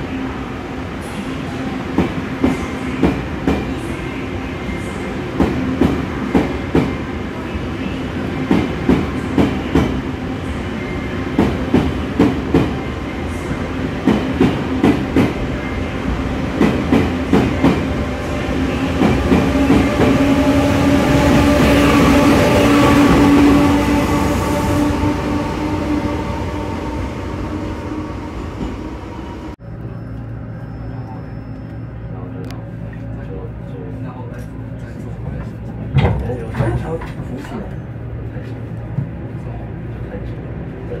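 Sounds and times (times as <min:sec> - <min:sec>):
train rumble and hum: 0:00.0 - 0:41.0
train whine: 0:00.0 - 0:41.0.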